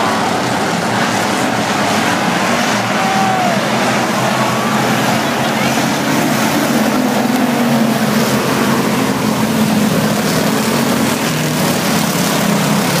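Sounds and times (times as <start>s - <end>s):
stock car engines droning: 0.0s - 13.0s.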